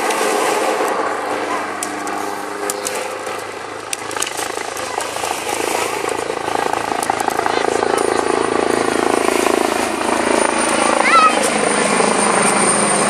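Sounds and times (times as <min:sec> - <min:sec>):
helicopter engine drone: 0:00.0 - 0:13.0
helicopter rotor beat: 0:00.0 - 0:13.0.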